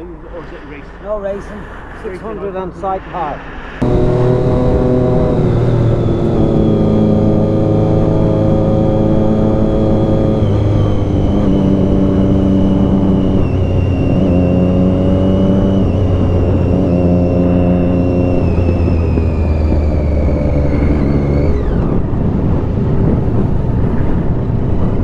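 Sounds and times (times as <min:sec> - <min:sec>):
motorcycle engine cruising: 0:03.8 - 0:25.0.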